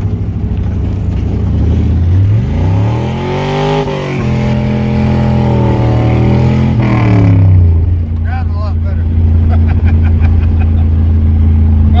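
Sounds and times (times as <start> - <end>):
engine accelerating: 0.0 - 12.0.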